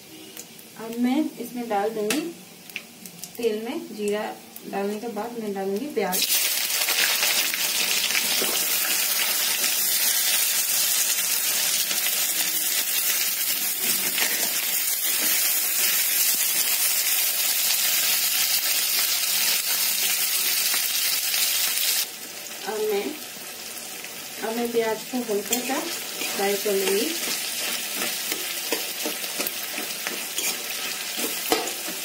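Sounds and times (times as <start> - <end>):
onions sizzling in hot oil: 0.0 - 32.0.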